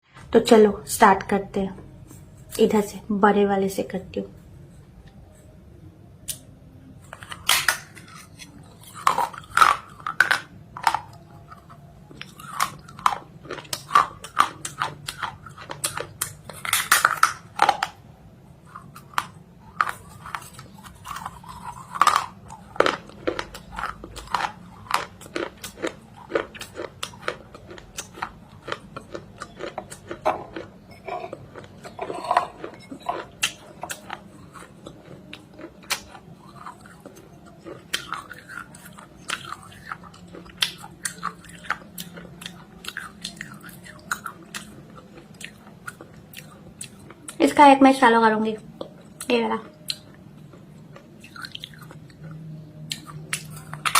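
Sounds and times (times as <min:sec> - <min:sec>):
person chewing crunchy food: 0:07.0 - 0:47.5, 0:48.6 - 0:53.9.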